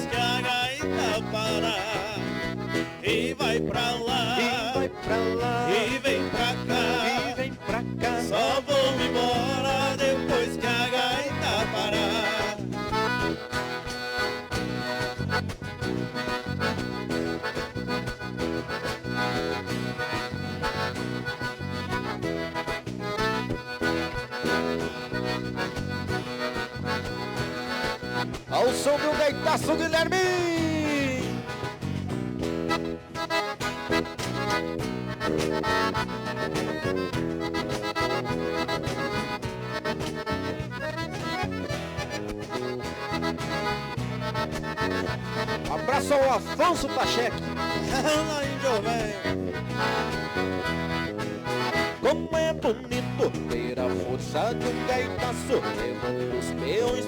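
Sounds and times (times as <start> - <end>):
accordion dance music: 0.0 - 57.0
steady bass beat: 0.0 - 57.0.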